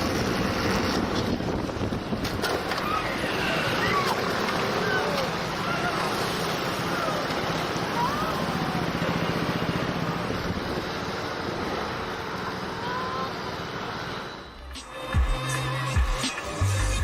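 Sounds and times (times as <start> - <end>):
vehicle wind and road noise: 0.0 - 17.0.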